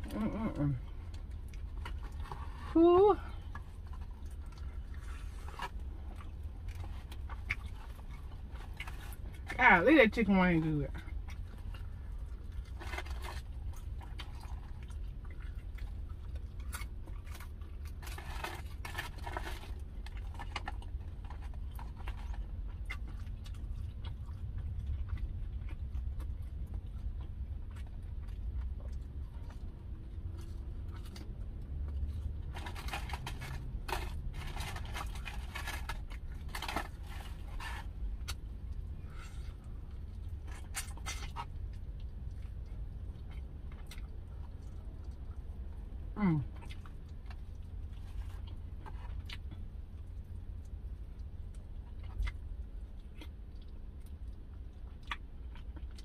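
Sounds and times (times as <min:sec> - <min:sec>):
wet chewing sounds: 0:00.0 - 0:09.6, 0:10.6 - 0:56.0
steady low rumble: 0:00.0 - 0:56.0.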